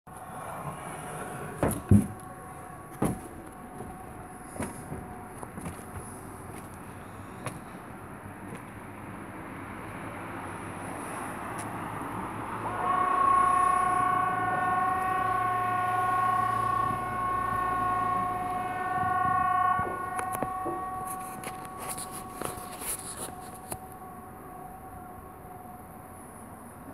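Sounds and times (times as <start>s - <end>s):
two-note warning siren: 0.1s - 7.5s, 11.1s - 26.9s.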